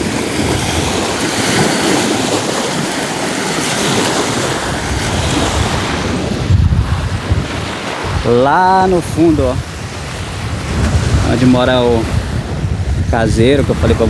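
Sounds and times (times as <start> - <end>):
small waves washing onto sand: 0.0 - 14.0
wind on microphone: 0.0 - 14.0.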